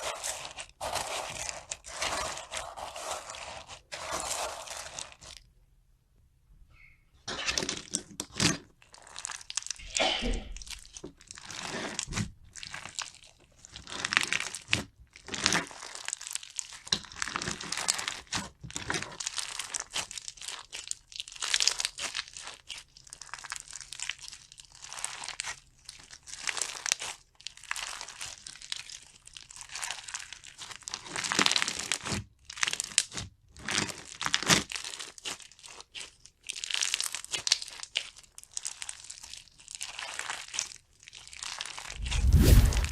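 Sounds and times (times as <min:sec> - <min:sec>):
slime crackling and crinkling: 0:00.0 - 0:05.5, 0:07.3 - 0:42.9.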